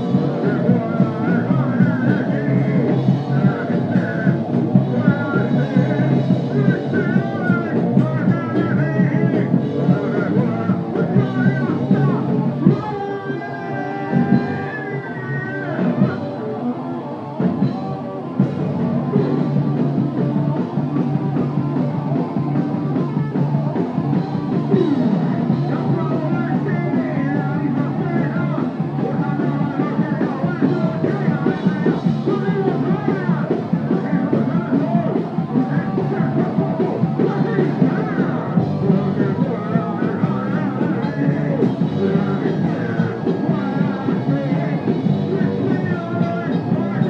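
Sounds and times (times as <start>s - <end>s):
live rock band playing: 0.0s - 47.0s
person singing: 0.0s - 47.0s.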